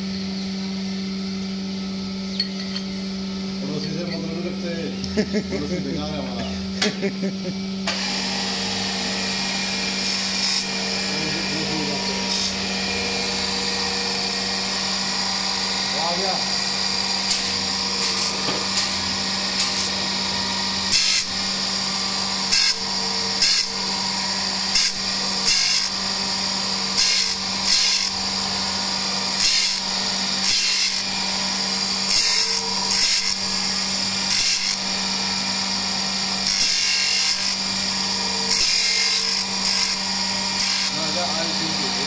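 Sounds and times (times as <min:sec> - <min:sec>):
grinder motor hum and whine: 0:00.0 - 0:42.0
grinding wheel on metal: 0:03.6 - 0:05.3, 0:09.6 - 0:42.0.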